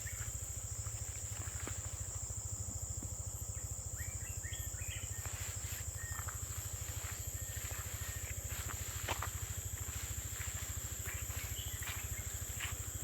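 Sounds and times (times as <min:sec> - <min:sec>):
insects droning: 0:00.0 - 0:13.0
low pulsing hum: 0:00.0 - 0:13.0.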